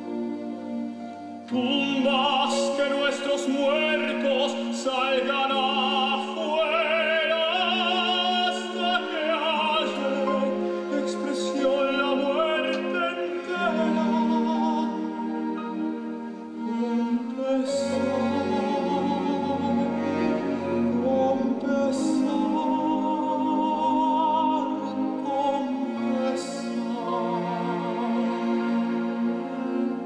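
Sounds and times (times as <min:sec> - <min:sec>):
orchestral chords: 0:00.0 - 0:30.0
operatic voice singing: 0:01.5 - 0:30.0.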